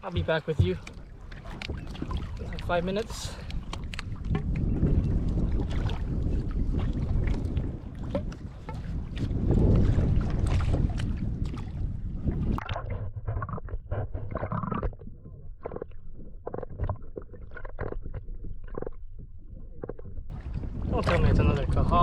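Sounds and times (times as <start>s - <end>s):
wind buffeting microphone: 0.0s - 16.3s, 20.2s - 22.0s.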